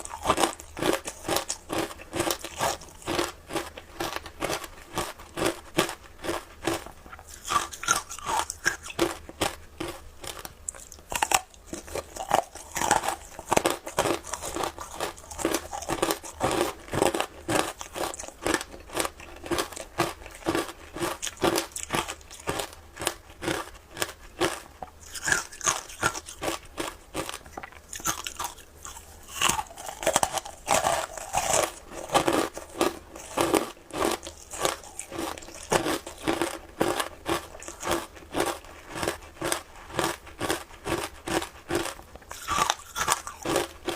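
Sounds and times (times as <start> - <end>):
chewing crunchy ice: 0.0 - 43.9.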